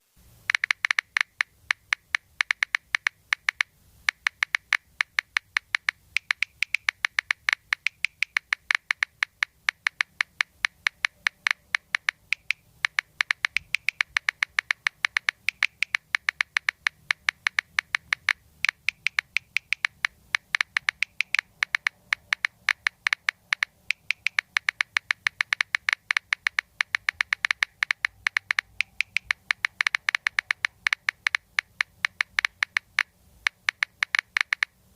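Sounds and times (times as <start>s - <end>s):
phone keyboard key clicks: 0.5s - 34.7s.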